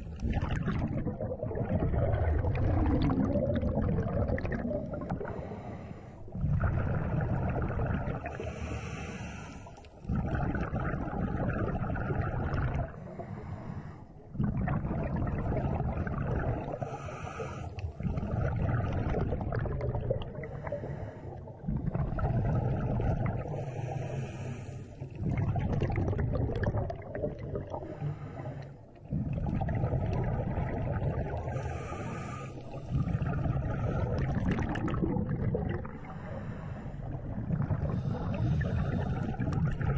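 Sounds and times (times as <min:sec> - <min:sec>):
exhaled bubbles gurgling: 0:00.0 - 0:39.9.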